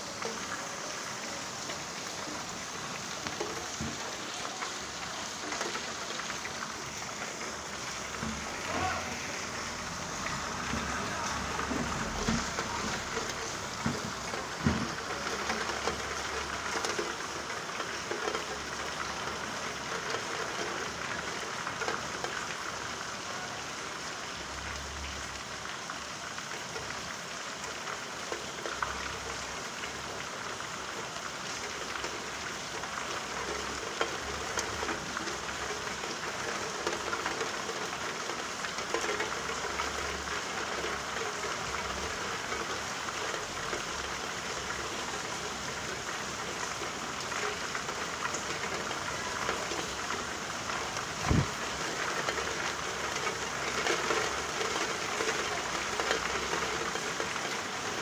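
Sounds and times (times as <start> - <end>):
steady rain falling: 0.0 - 58.0
raindrop ticks: 1.5 - 23.6, 26.3 - 58.0.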